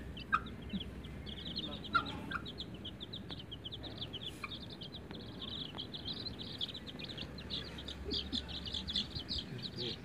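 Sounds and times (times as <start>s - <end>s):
lovebirds chirping rapidly: 0.0s - 10.0s.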